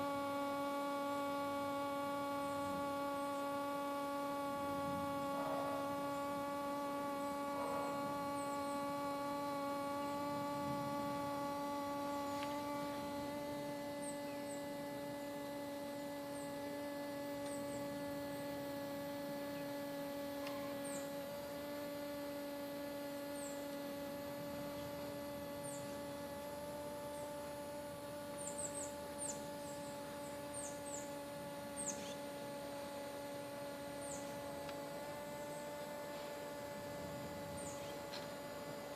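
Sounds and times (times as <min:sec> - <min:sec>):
hoverfly wings buzzing: 0:00.0 - 0:38.9.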